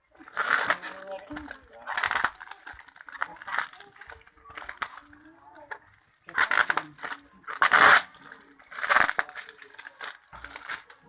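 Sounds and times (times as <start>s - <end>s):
packaging tearing and crinkling: 0.2s - 11.0s.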